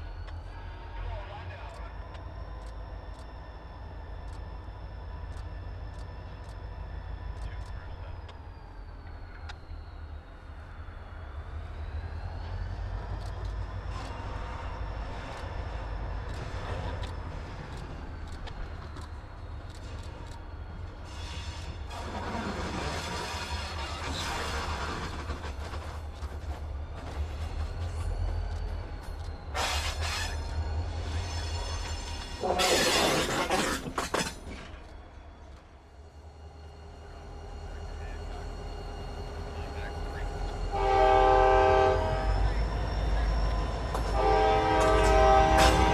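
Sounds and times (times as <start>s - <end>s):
freight train rumbling: 0.0s - 45.9s
railcars rattling and clanking: 0.0s - 45.9s.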